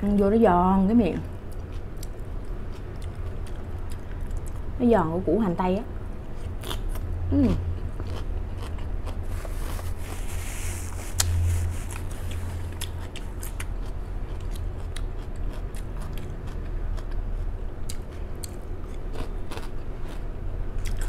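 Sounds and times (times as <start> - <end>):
low hum: 0.0 - 19.1
chewing crunchy salad: 1.2 - 4.7, 6.4 - 21.0.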